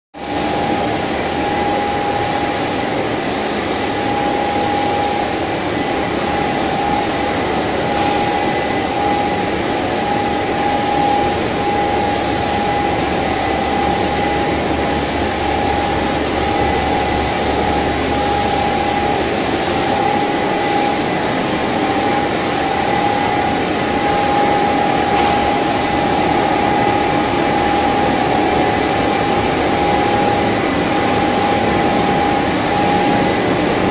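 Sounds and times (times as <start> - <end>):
constant machine whine: 0.2 - 33.9.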